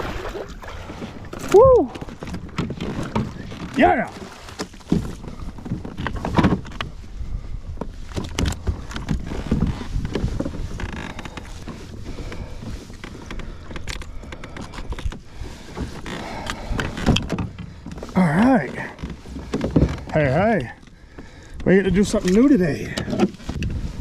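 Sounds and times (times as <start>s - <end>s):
knocks and creaks on plastic kayak: 0.0s - 24.0s.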